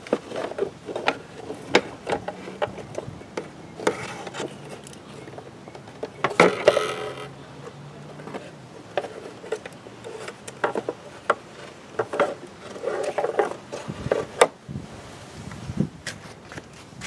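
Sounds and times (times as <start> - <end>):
hard plastic parts knocking and scraping: 0.0 - 14.6.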